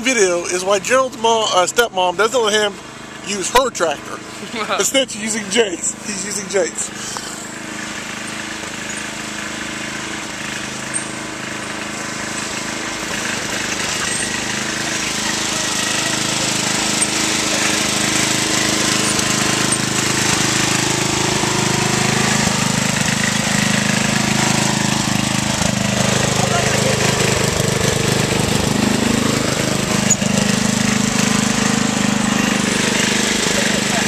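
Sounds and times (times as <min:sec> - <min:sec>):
riding lawn tractor engine running: 0:00.0 - 0:34.0.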